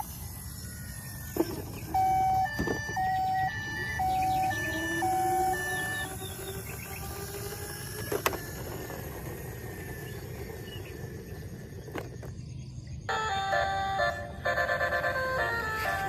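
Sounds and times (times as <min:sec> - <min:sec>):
toy vehicle electronic tune: 0:00.0 - 0:12.4, 0:13.0 - 0:16.0
low outdoor rumble: 0:00.0 - 0:13.1.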